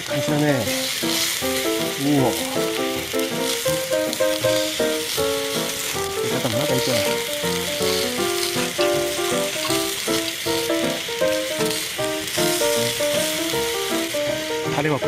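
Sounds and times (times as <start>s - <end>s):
pork sizzling on a grill: 0.0s - 15.0s
simple melody background music: 0.0s - 15.0s.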